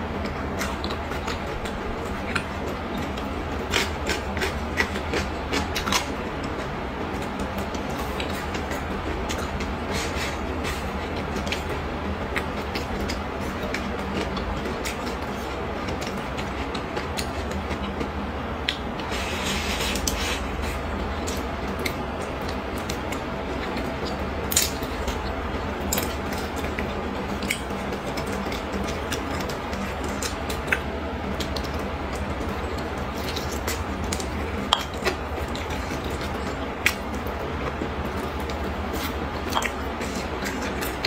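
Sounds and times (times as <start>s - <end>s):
chewing with wet mouth sounds: 0.0s - 41.0s
low hum and hiss: 0.0s - 41.0s.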